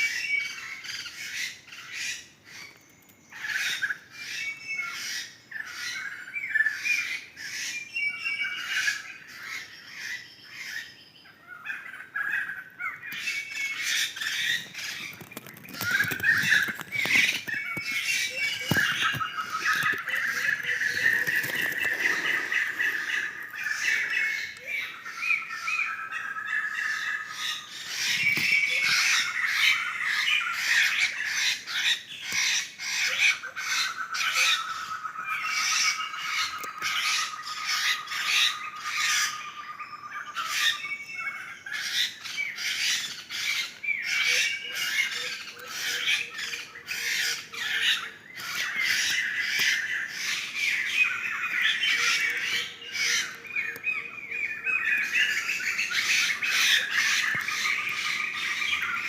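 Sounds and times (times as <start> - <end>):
birds squawking and chattering: 0.0 - 59.0
bird trill of rapid notes: 11.7 - 59.0.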